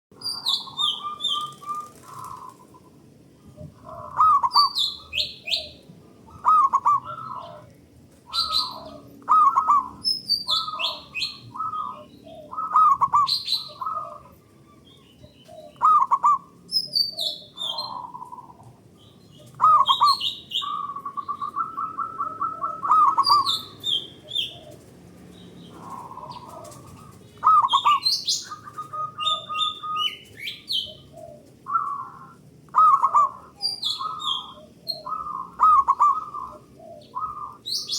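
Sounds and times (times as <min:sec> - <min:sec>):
doves cooing: 0:00.2 - 0:37.9.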